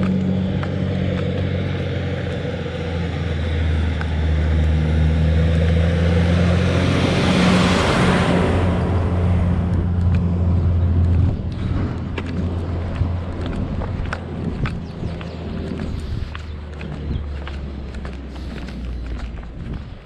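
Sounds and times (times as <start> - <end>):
lorry engine passing by: 0.0 - 20.0.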